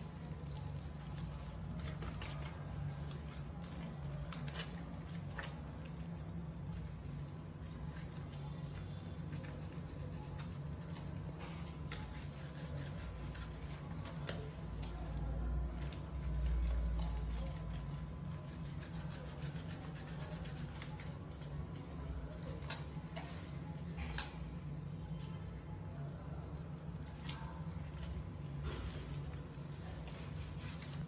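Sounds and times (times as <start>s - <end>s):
hands rubbing wet fur: 0.0s - 15.2s, 15.8s - 31.0s.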